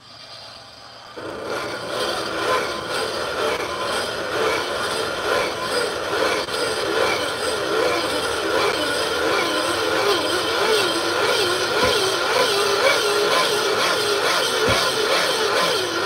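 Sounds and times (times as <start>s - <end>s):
blender whirring: 1.1s - 16.0s.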